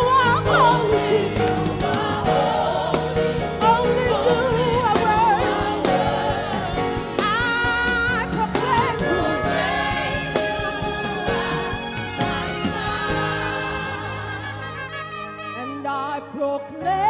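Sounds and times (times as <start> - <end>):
gospel singing: 0.0 - 17.0
instrumental backing: 0.0 - 17.0.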